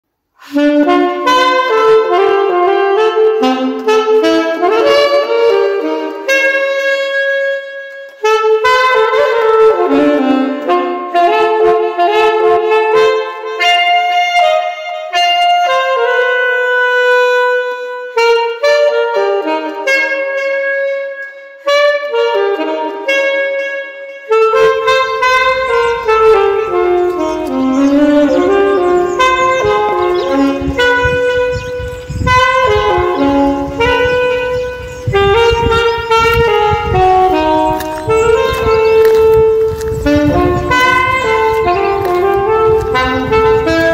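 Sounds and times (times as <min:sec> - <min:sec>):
bebop jazz with saxophone: 0:00.3 - 0:43.9.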